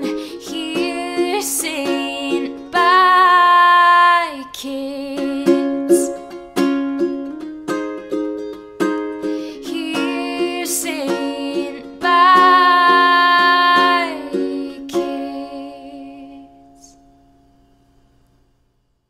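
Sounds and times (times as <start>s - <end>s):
plucked notes: 0.0s - 17.5s.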